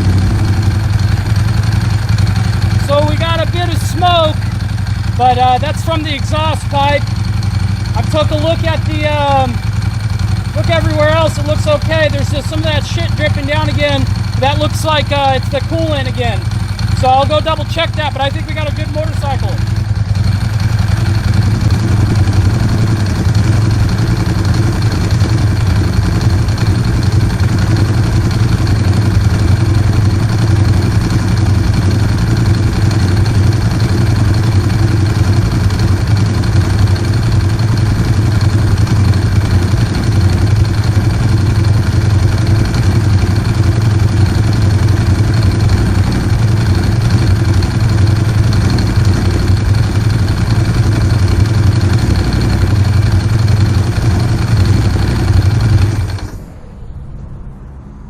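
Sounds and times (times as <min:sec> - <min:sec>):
motorcycle engine idling: 0:00.0 - 0:56.7.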